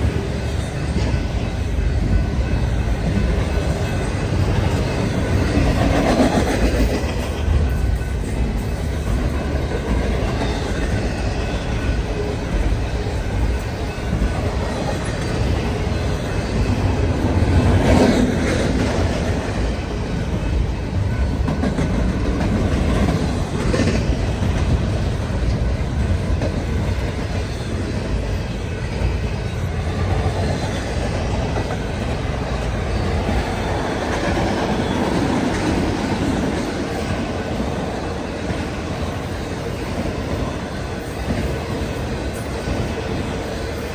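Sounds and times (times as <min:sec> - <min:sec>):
freight train wheels on track: 0:00.0 - 0:43.9.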